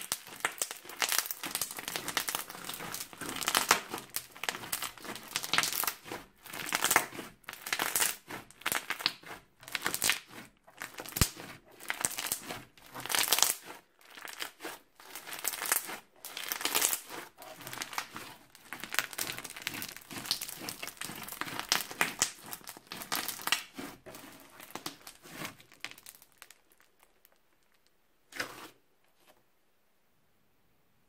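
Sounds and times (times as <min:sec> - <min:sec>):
crunchy slime crackling: 0:00.0 - 0:28.8.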